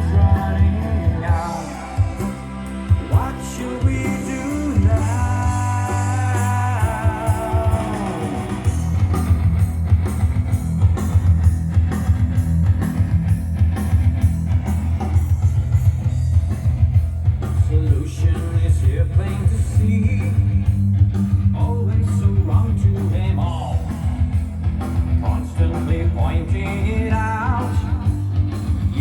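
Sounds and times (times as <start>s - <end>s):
driving beat with heavy bass: 0.0s - 29.0s
progressive rock over loudspeakers: 0.0s - 29.0s.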